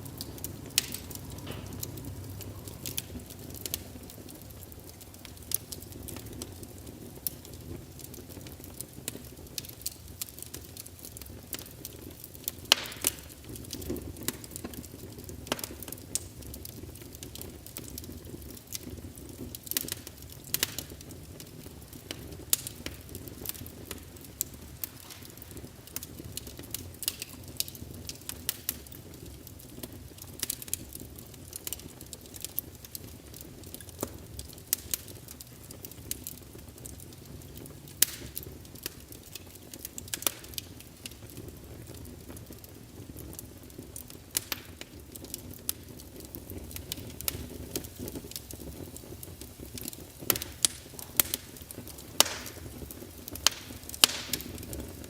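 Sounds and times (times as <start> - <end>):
fire crackling and popping: 0.0 - 55.0
fire hissing and rumbling: 0.0 - 55.0.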